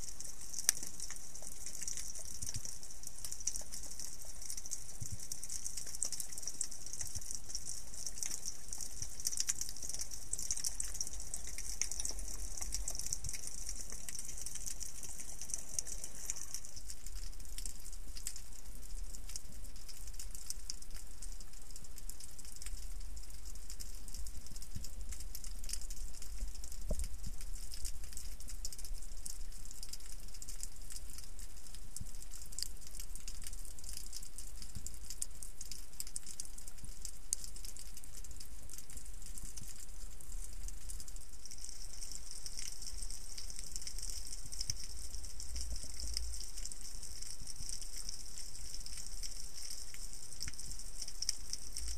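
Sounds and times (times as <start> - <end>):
underwater crackle and hiss: 0.0 - 51.9.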